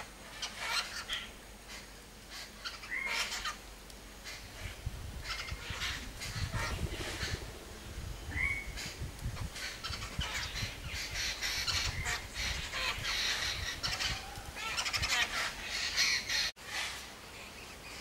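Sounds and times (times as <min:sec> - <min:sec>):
birds chattering harshly: 0:00.0 - 0:18.0.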